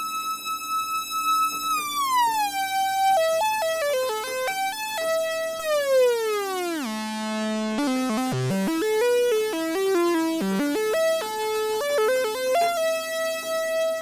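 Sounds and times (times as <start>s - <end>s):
buzzy synthesizer run: 0.9s - 14.0s.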